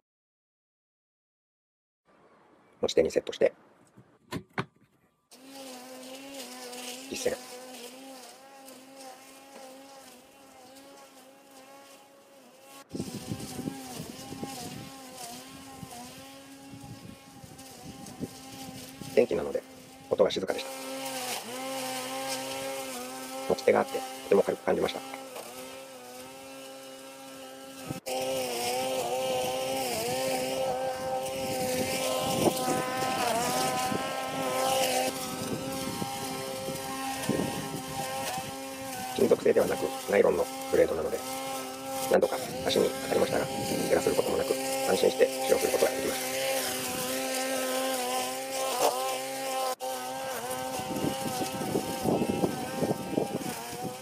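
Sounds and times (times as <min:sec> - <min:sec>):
rough crackling noise: 0:04.9 - 0:54.0
grass trimmer whine: 0:05.3 - 0:54.0.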